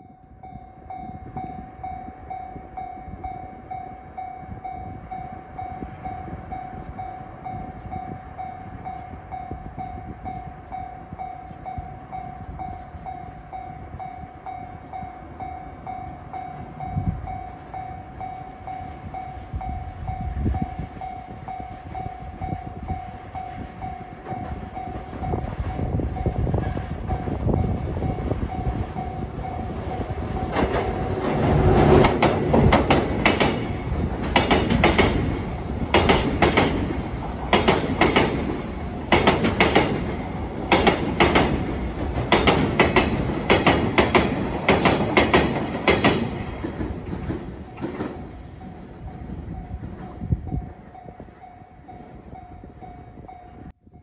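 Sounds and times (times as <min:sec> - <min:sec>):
diesel locomotive rumble: 0:00.0 - 0:53.8.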